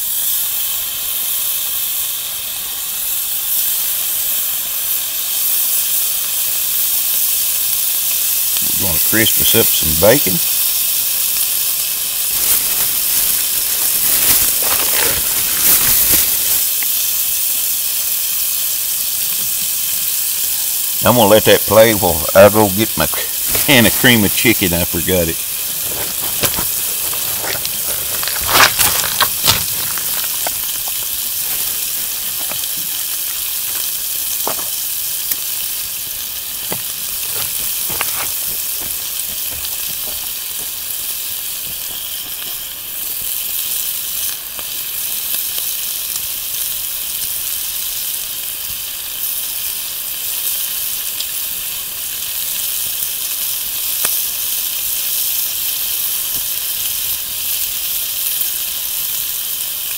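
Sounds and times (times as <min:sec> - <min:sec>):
bacon sizzling in a frying pan: 0:00.0 - 0:59.9.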